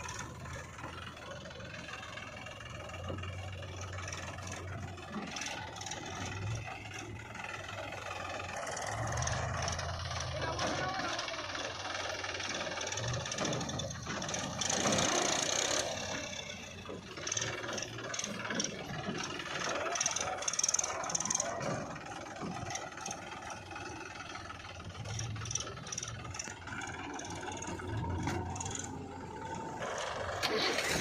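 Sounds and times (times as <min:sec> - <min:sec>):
backhoe diesel engine working: 0:00.0 - 0:31.0
metallic rattles and scraping: 0:00.0 - 0:31.0.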